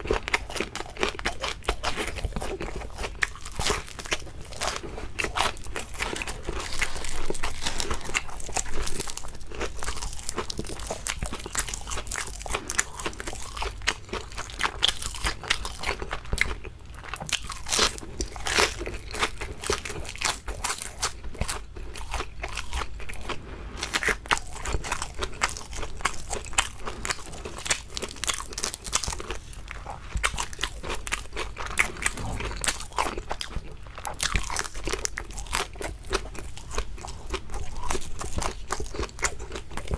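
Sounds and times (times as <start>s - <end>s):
crunching and chewing food: 0.0s - 39.9s.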